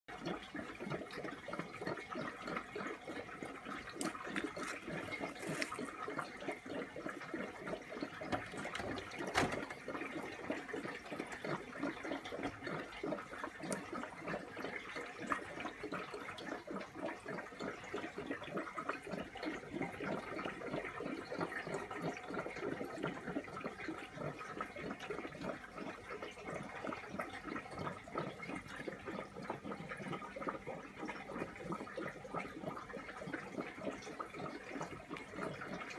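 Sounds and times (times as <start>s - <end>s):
aquarium water trickling and bubbling: 0.1s - 35.9s.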